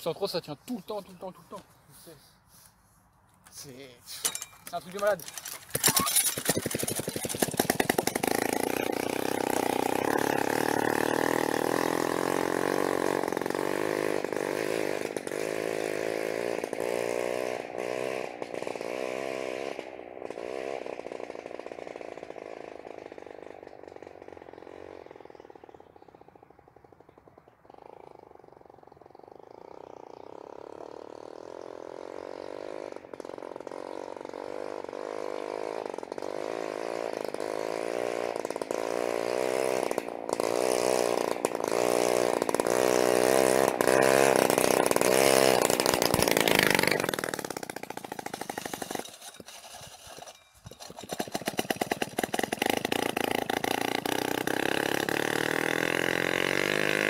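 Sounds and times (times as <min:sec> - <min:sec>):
rasping moped engine: 0:04.1 - 0:57.0.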